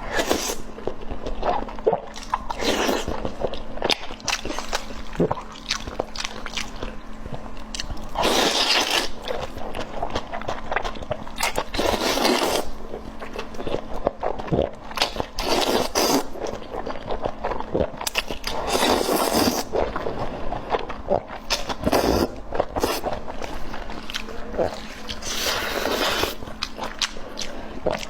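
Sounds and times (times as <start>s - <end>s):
wet biting and chewing: 0.0s - 28.0s.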